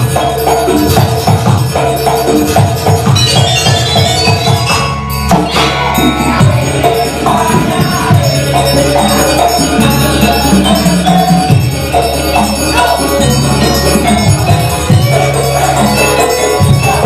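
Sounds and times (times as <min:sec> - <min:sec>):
drum strokes: 0:00.0 - 0:17.0
metallic percussion: 0:00.0 - 0:17.0.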